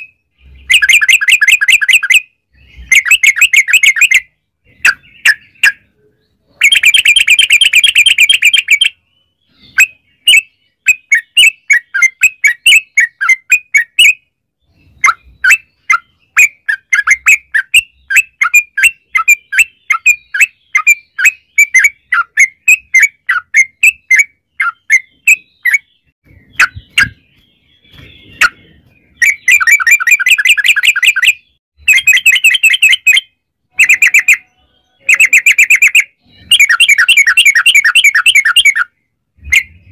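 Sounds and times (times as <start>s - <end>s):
bird singing rolling trills: 0.0s - 39.9s
quick bird chirps: 0.0s - 39.9s.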